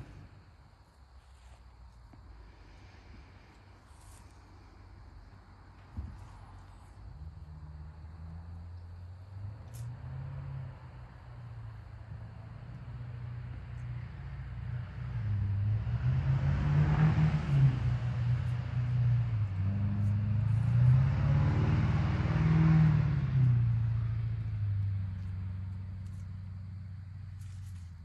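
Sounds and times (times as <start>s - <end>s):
vehicle engine passing: 3.9s - 28.0s.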